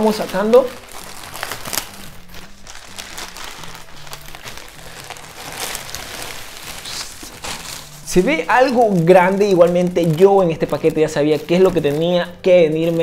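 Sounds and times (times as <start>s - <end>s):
plastic bag crinkling: 0.0s - 13.0s
quiet background music: 0.0s - 13.0s.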